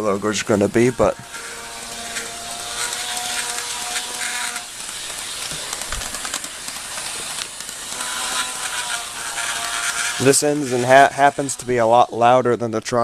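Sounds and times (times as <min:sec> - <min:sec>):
model train motor whine: 0:00.0 - 0:12.4
model train wheels rattling on rail: 0:00.0 - 0:12.4.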